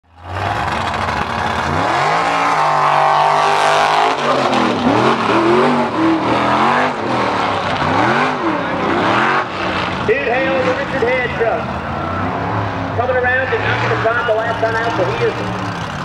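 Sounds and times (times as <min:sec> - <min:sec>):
engine revving at full throttle: 0:00.2 - 0:11.6, 0:13.4 - 0:16.0.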